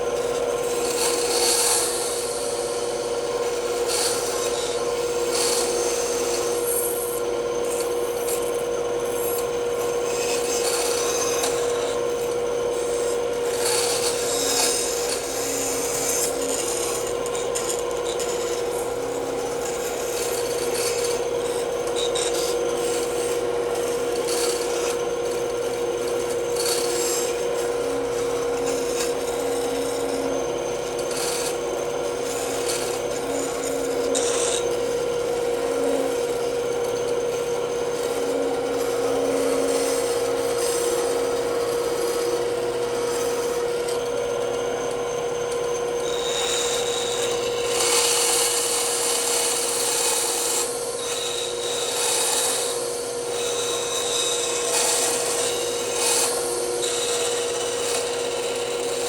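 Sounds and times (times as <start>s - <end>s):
band saw humming: 0.0s - 59.0s
saw blade cutting wood: 0.0s - 59.0s.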